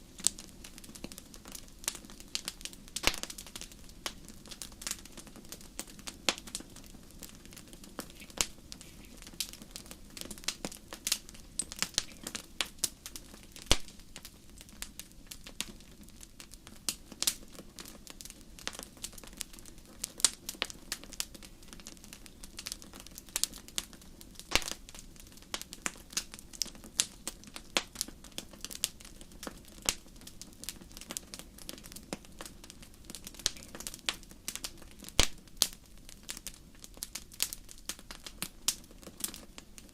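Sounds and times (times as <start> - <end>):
low rumble of flames: 0.0 - 39.9
fire pops and snaps: 0.1 - 39.9.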